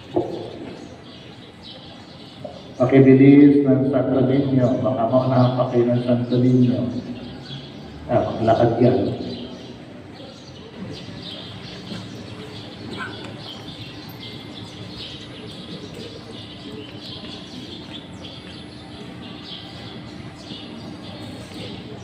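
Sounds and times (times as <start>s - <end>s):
crowd murmur: 0.0s - 22.0s
small birds chirping: 0.0s - 22.0s.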